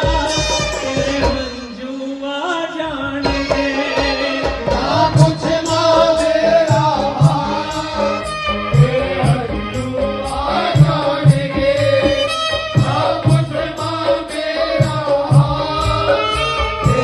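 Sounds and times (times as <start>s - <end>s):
high percussion ticking: 0.0s - 2.0s, 3.1s - 17.0s
devotional singing: 0.0s - 17.0s
hand drum beat: 3.2s - 17.0s.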